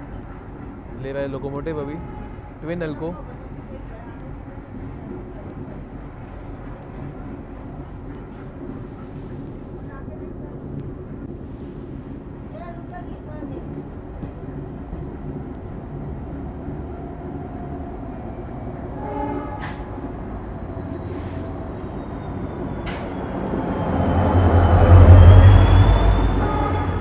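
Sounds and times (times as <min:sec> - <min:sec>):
diesel locomotives chugging: 0:00.0 - 0:27.0.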